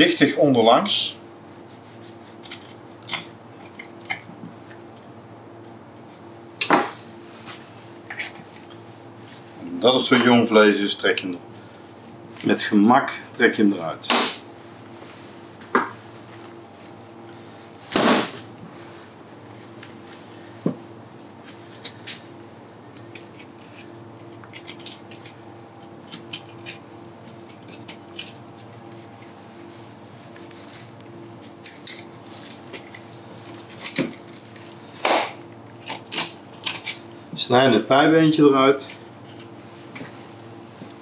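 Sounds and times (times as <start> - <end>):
background hum: 0.0 - 41.0.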